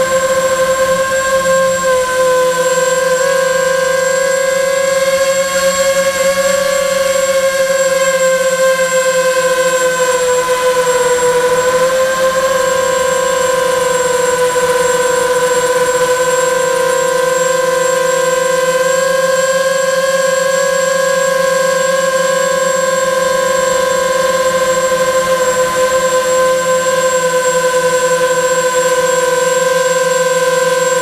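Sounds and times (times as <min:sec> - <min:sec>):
model aircraft motor whine: 0:00.0 - 0:31.0.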